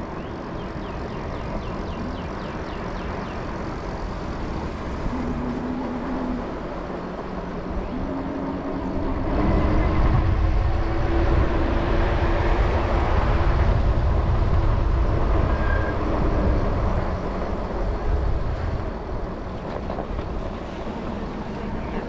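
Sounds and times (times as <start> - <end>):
road traffic: 0.0 - 22.0
wind rushing over microphone: 0.0 - 22.0.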